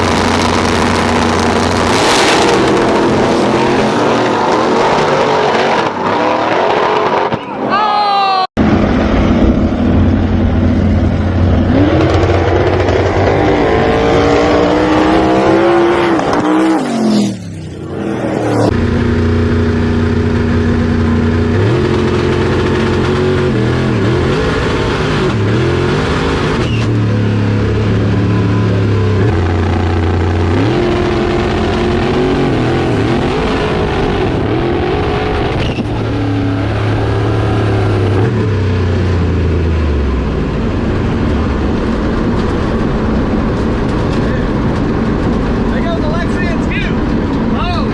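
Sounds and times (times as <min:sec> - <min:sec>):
drag racing car engines revving: 0:00.0 - 0:07.7, 0:08.6 - 0:47.9.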